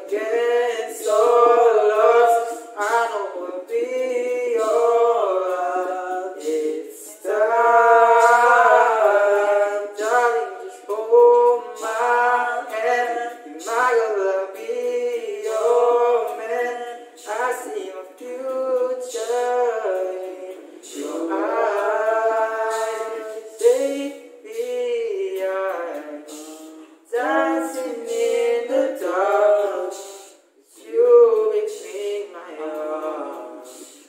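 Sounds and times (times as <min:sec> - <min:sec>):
group singing a cappella: 0:00.0 - 0:34.0.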